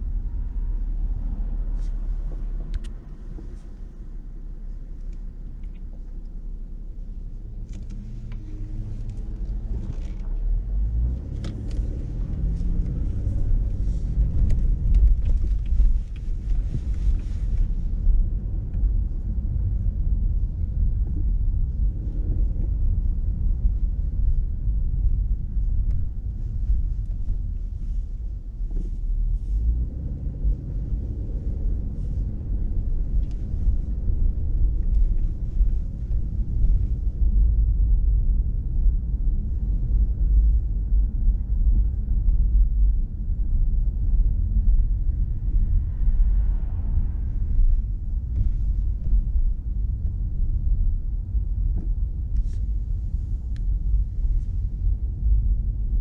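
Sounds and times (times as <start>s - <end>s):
road and engine rumble: 0.0s - 56.0s.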